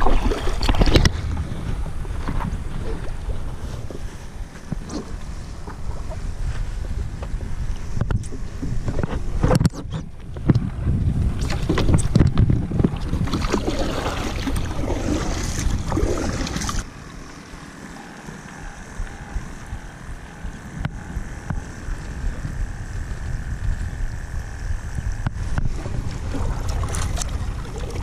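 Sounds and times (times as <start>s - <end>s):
wind noise on microphone: 0.0s - 16.9s, 18.5s - 28.0s.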